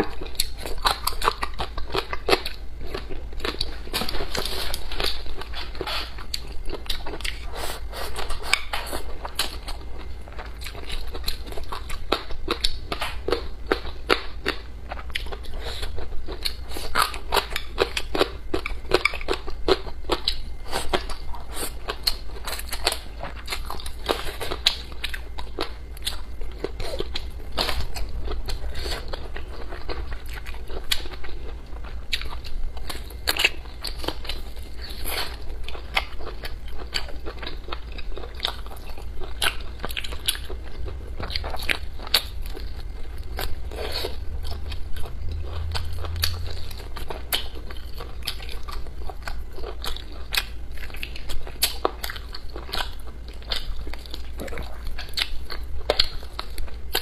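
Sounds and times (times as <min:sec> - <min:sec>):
person chewing with crunches: 0:00.0 - 0:57.0.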